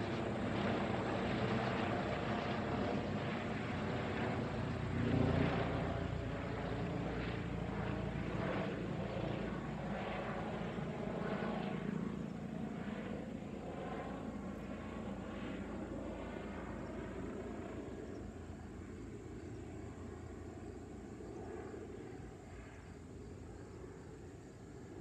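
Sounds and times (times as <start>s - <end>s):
helicopter flying over: 0.0s - 25.0s.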